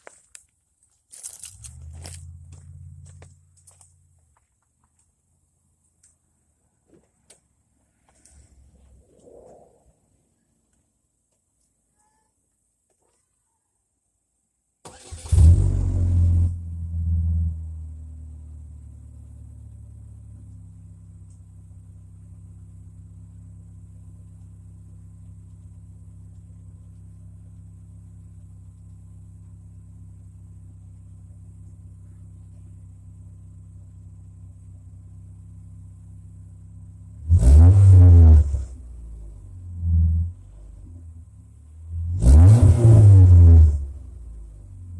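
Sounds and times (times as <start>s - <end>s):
car exhaust idling and revving: 1.2s - 9.7s, 15.2s - 44.9s.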